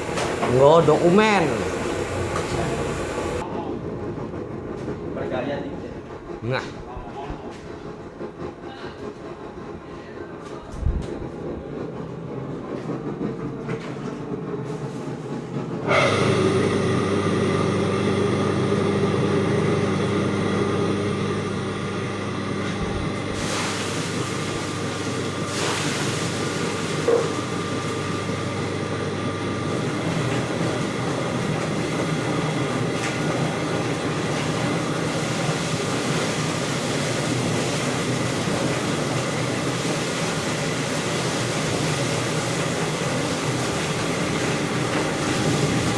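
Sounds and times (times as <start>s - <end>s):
plucking machine humming and clattering: 0.0s - 5.2s, 10.4s - 45.9s.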